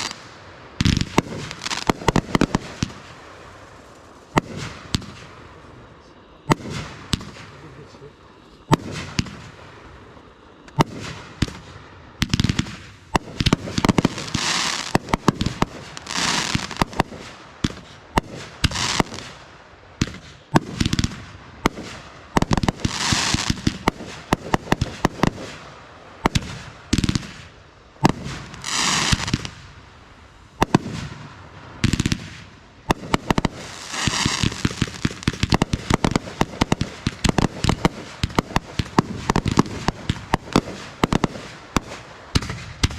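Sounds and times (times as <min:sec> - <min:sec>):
fireworks bangs: 0:00.0 - 0:42.9
high crackling hiss: 0:00.0 - 0:42.9.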